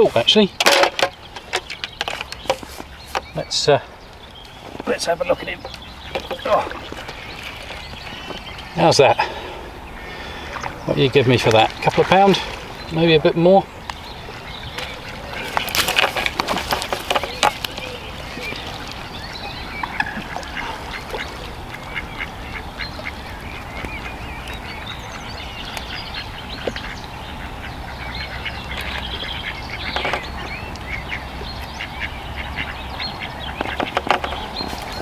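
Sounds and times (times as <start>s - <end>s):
ducks quacking: 0.0s - 35.0s
short chirping calls: 0.0s - 35.0s.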